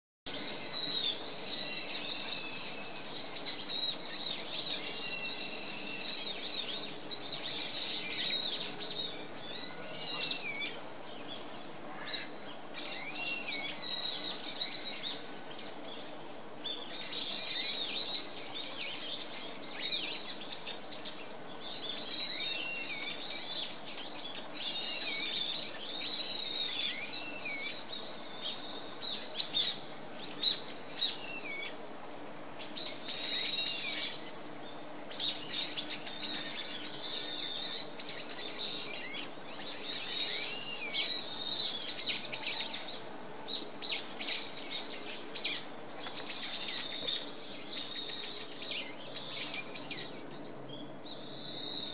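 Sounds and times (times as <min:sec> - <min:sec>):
songbirds chirping: 0:00.3 - 0:51.9.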